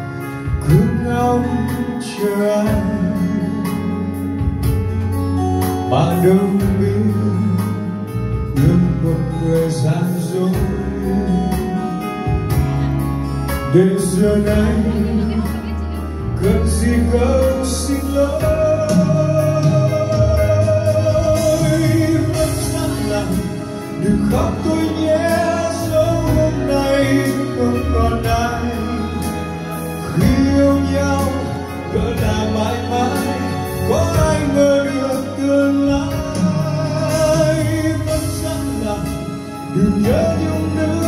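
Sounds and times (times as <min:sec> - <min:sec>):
instrumental backing: 0:00.0 - 0:41.0
man singing: 0:00.0 - 0:41.0.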